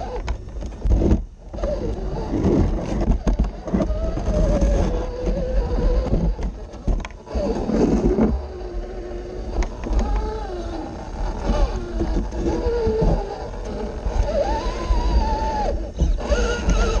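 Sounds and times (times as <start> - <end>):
electric motor whining: 0.0 - 17.0
low chassis rumble: 0.0 - 17.0.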